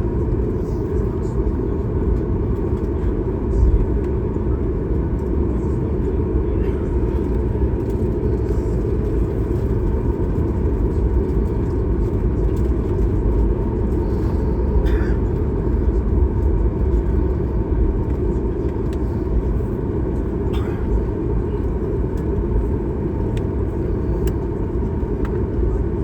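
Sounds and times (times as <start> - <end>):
airplane cabin rumble: 0.0 - 26.0.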